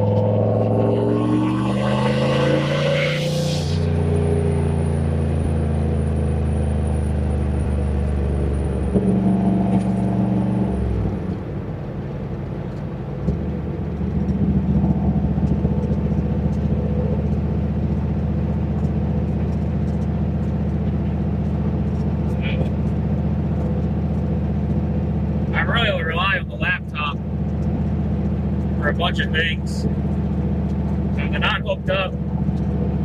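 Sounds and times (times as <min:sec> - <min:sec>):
car engine running: 0:00.0 - 0:33.0.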